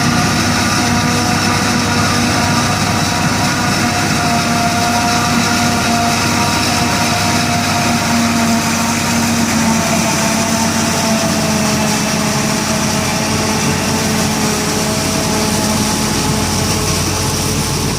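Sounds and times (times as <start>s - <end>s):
farm machinery engines humming: 0.0s - 17.9s.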